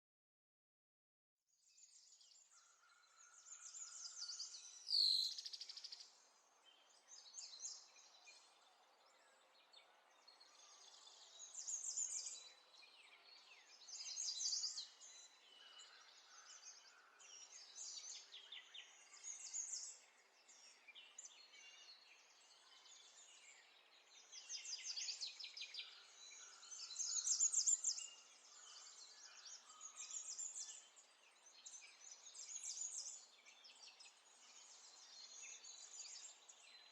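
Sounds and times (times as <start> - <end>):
birds chirping and twittering: 1.5 - 36.9.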